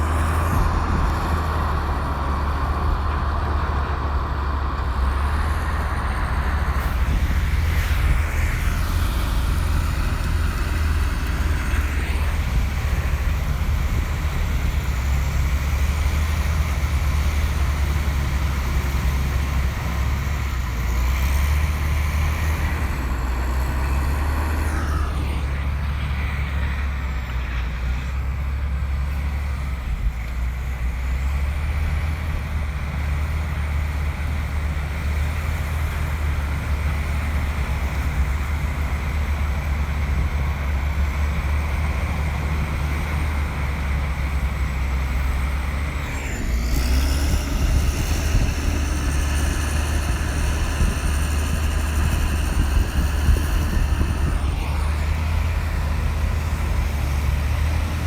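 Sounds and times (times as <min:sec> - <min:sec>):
bulldozer diesel engine rumbling: 0:00.0 - 0:58.0.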